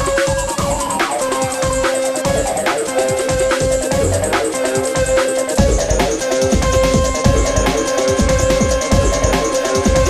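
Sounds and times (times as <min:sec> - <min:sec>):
electronic music with a beat: 0:00.0 - 0:10.0.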